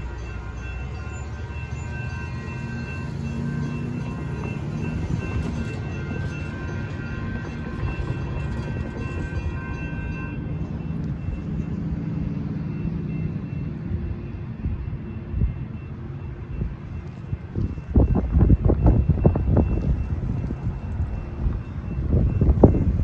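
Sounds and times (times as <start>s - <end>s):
crossing signal bells ringing: 0.0s - 23.0s
locomotive engine hum: 0.0s - 23.0s
passenger train rumbling past: 0.0s - 23.0s.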